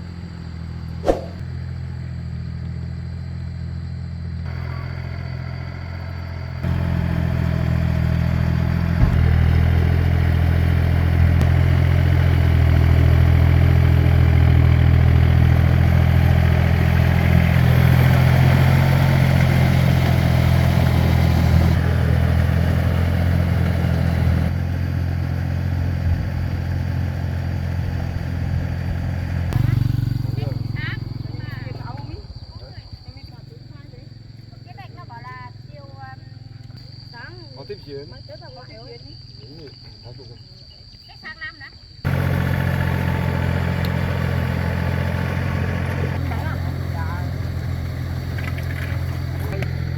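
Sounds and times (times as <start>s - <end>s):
tractor engine running: 0.0s - 33.7s, 42.0s - 49.9s.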